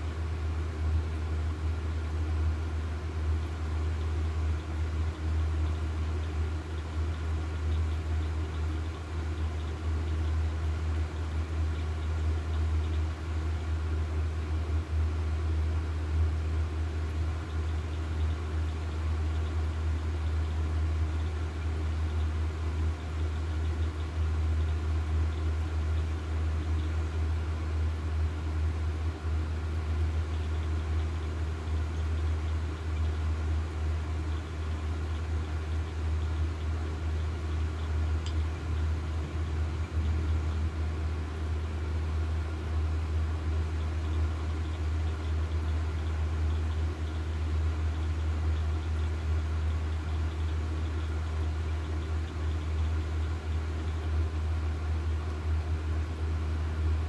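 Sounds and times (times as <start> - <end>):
faint steady tones: 0.0 - 57.0
steady low hum: 0.0 - 57.0.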